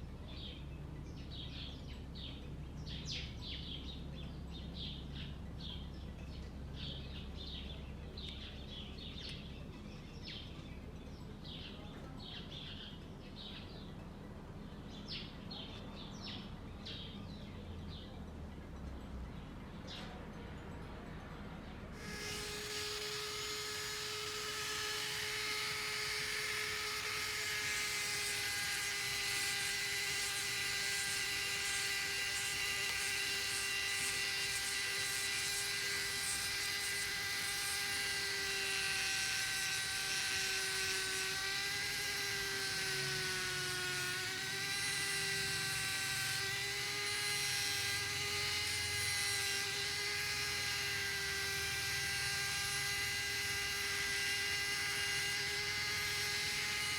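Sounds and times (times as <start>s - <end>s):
electric power tool whining: 0.0s - 13.9s, 14.6s - 56.9s.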